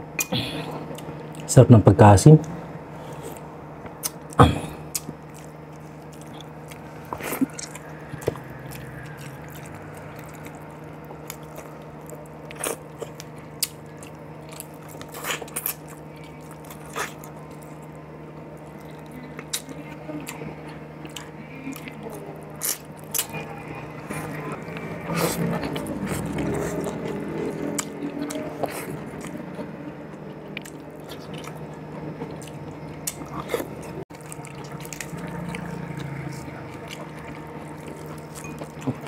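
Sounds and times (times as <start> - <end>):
man chewing food: 0.0 - 1.5, 2.4 - 39.0
steady low hum: 0.0 - 39.0.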